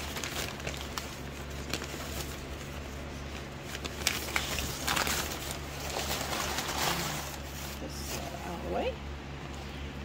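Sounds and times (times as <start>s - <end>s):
tissue paper rustling and crinkling: 0.0s - 8.8s.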